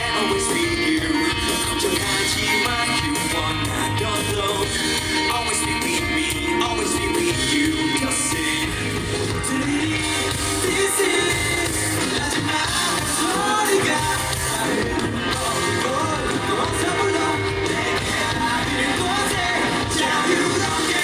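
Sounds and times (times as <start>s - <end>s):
live rock band: 0.0s - 21.0s
man singing: 0.0s - 21.0s.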